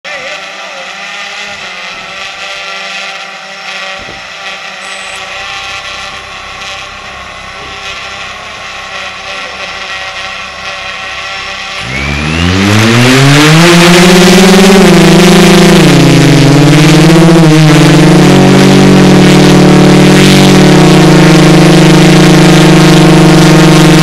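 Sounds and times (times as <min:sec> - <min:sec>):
drone motors whining: 0:00.1 - 0:24.0.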